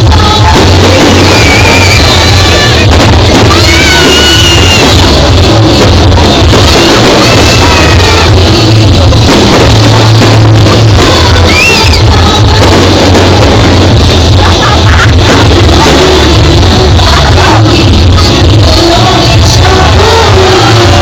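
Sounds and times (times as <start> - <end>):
crowd: 0.0 - 21.0
loud rock music with singing: 0.0 - 21.0.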